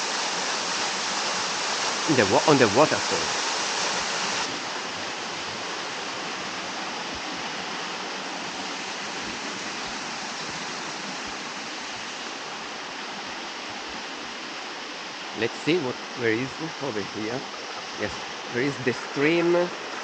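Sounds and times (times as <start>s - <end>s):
water rushing over waterfall: 0.0s - 20.0s.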